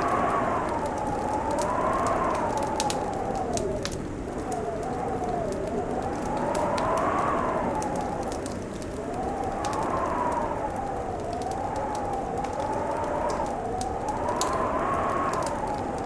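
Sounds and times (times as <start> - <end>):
crackling wood fire: 0.0 - 16.0
howling wind: 0.0 - 16.0.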